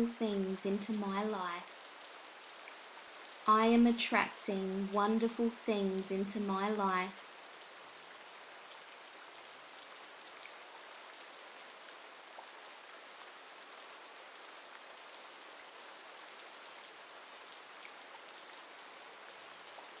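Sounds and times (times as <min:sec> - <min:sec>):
soft rainfall: 0:00.0 - 0:20.0.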